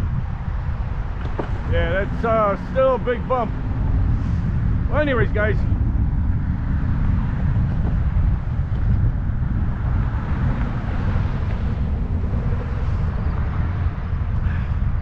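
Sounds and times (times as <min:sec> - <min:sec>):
road and traffic noise: 0:00.0 - 0:15.0
wind rumble on microphone: 0:00.0 - 0:15.0.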